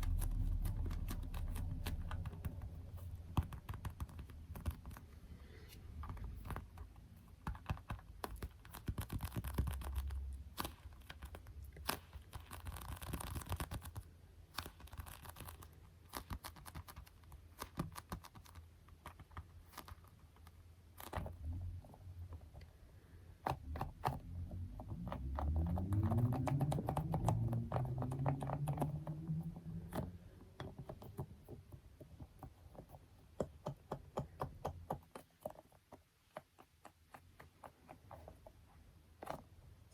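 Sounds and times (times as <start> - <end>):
fingertips tapping and scratching: 0.0 - 39.9.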